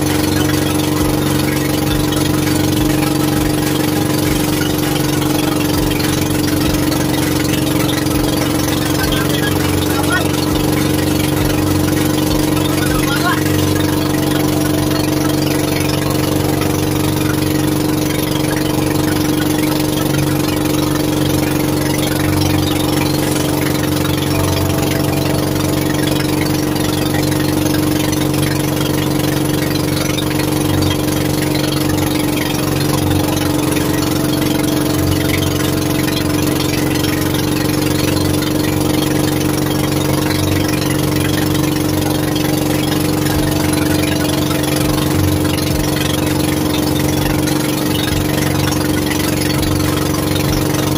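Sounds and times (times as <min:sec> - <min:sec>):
boat engine running steadily: 0:00.0 - 0:50.9.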